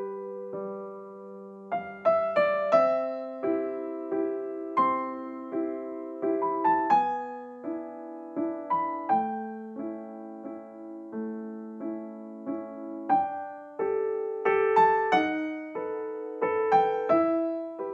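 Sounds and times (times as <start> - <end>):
soft piano music: 0.0 - 17.9.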